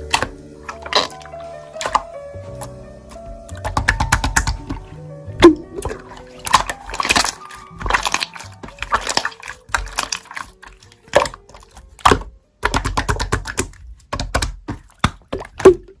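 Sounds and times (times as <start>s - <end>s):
slime clicking and popping: 0.0s - 16.0s
soft background music: 0.0s - 16.0s.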